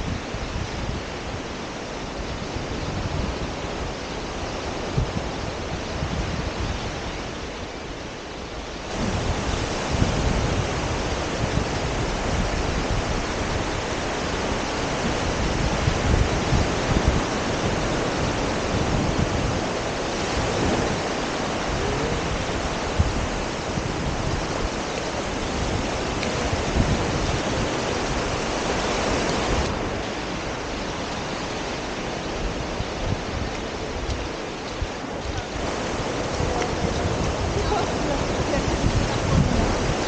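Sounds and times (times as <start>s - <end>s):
surf washing onto sand: 0.0s - 40.0s
wind buffeting microphone: 0.0s - 40.0s.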